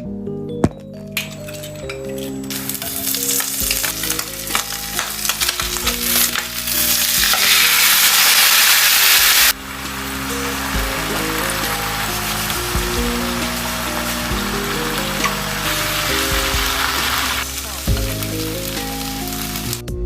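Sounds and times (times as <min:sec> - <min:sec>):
food sizzling in a pan: 0:02.2 - 0:19.8.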